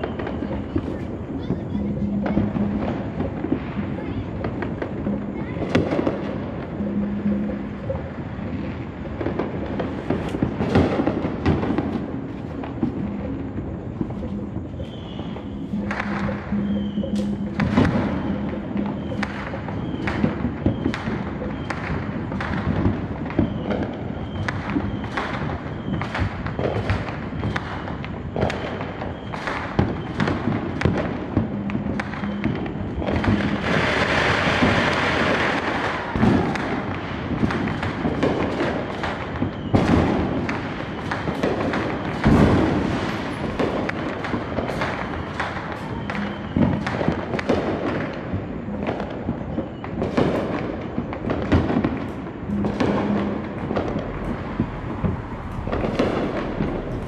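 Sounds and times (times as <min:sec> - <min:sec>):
fireworks bangs and thuds: 0:00.0 - 0:57.0
fireworks hissing crackle: 0:00.0 - 0:57.0.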